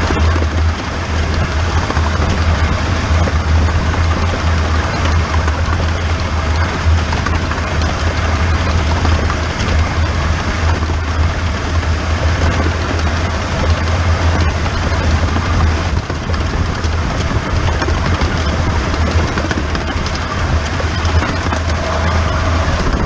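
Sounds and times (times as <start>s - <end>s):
steam locomotive rumbling: 0.0s - 23.0s.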